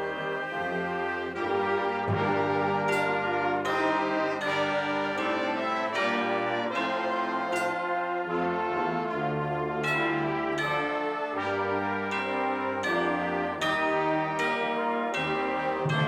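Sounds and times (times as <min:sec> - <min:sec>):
concert band playing brass music: 0:00.0 - 0:16.0.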